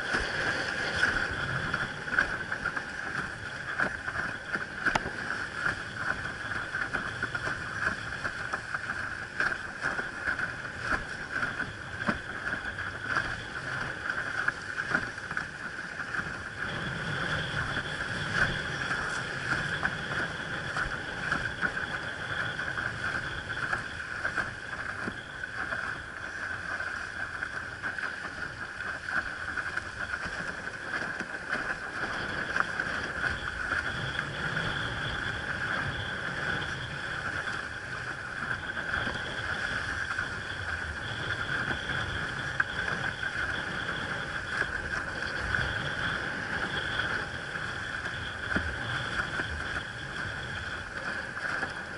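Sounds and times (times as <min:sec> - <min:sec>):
water splashing against board: 0:00.0 - 0:51.9.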